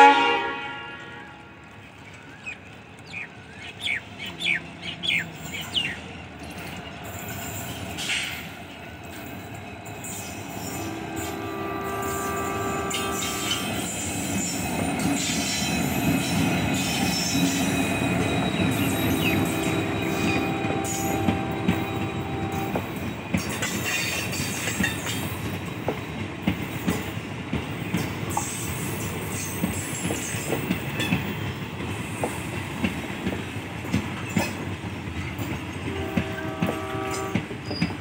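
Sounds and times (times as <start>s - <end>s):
diesel locomotive engine: 0.0s - 38.0s
train wheel noise: 0.9s - 38.0s.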